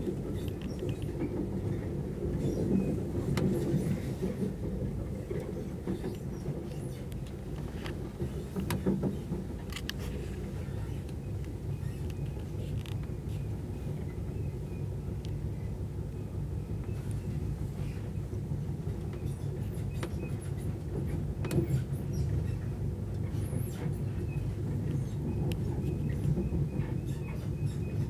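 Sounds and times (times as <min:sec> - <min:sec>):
train running low rumble: 0:00.0 - 0:28.0.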